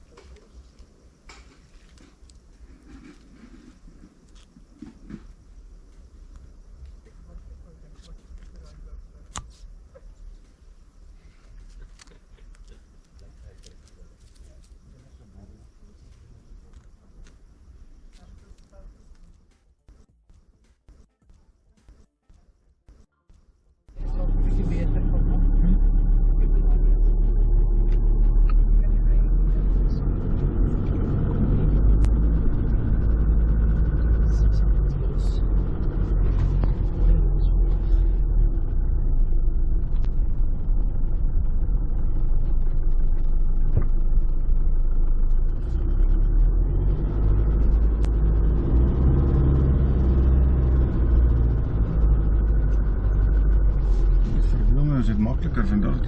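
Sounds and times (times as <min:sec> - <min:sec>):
vehicle engine and road rumble: 0:00.0 - 0:20.0, 0:23.9 - 0:56.0.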